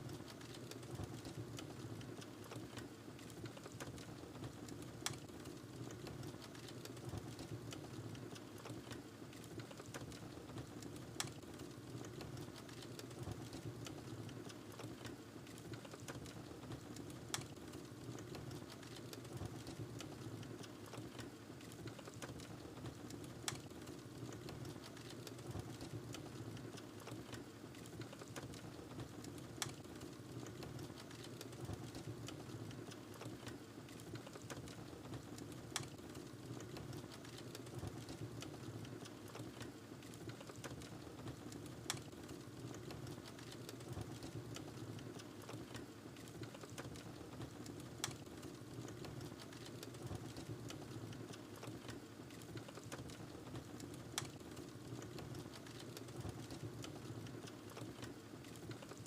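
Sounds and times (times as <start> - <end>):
wood crackling and popping: 0.0 - 59.0.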